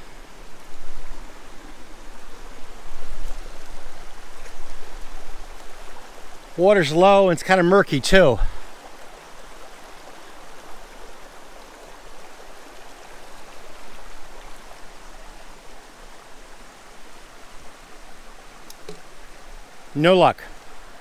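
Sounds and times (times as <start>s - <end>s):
stream babbling over rocks: 0.0s - 21.0s.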